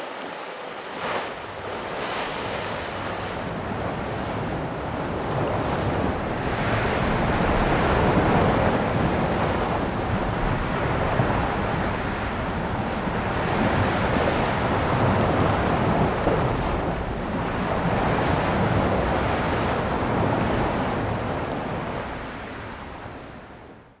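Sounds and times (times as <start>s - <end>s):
sea waves washing onto beach: 0.0s - 23.7s.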